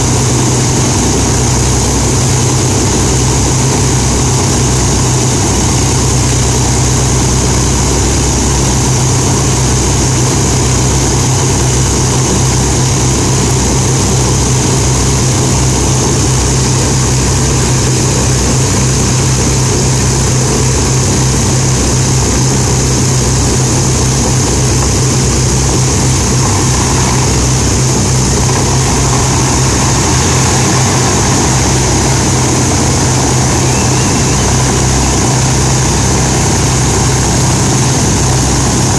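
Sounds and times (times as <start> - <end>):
propeller aircraft engines droning: 0.0 - 38.9.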